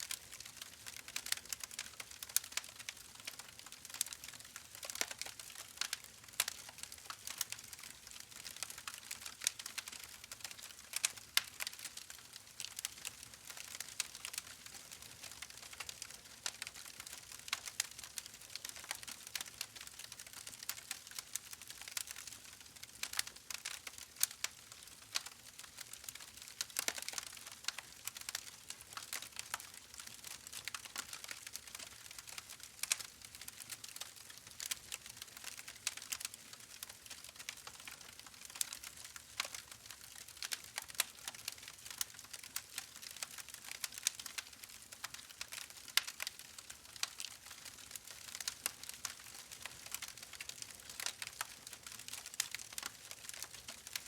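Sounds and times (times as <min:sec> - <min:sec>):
faint crackling clicks and pops: 0:00.0 - 0:54.0.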